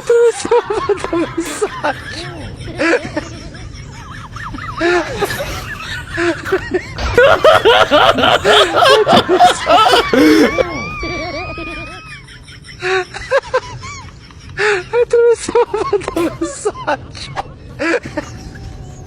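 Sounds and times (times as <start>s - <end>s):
people laughing: 0.0s - 19.0s.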